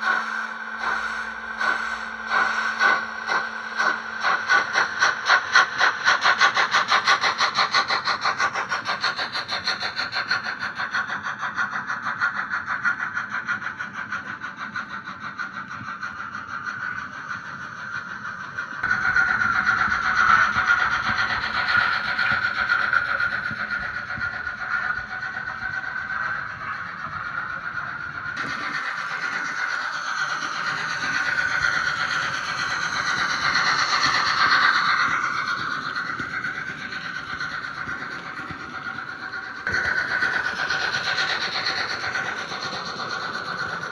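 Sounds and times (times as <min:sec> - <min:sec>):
model train motor whine: 0:00.0 - 0:11.8, 0:13.2 - 0:43.9
model train clattering on track: 0:00.0 - 0:17.4, 0:18.8 - 0:43.9.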